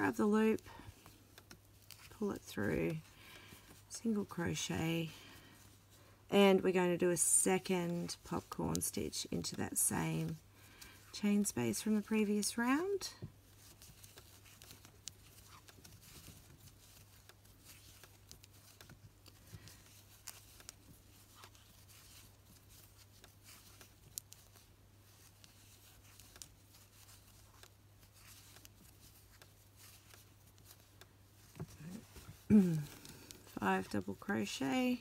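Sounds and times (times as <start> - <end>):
crochet hook rustling yarn: 0.0 - 35.0
low steady hum: 0.0 - 35.0.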